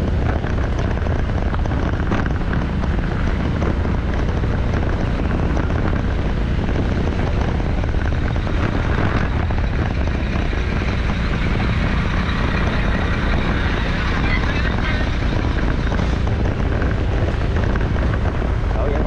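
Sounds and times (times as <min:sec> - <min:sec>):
road vehicle rumble: 0:00.0 - 0:19.0
wind buffeting microphone: 0:00.0 - 0:19.0.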